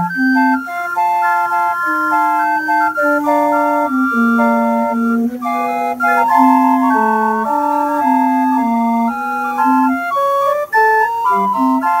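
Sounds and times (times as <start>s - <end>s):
calliope whistles playing a tune: 0.0s - 12.0s.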